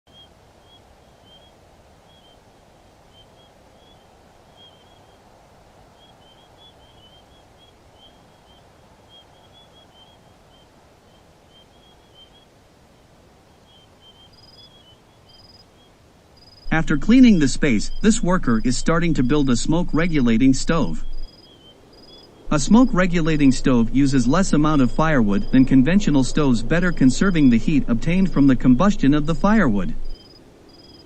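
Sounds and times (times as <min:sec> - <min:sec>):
low background hiss: 0:00.1 - 0:31.0.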